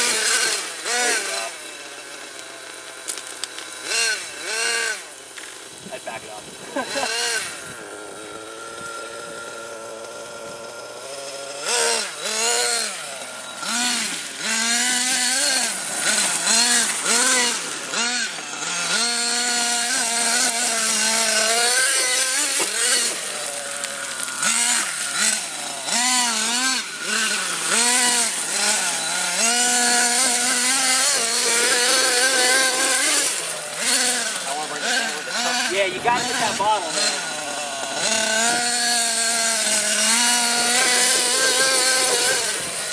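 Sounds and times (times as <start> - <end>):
electric motor whining: 0.0 - 42.9.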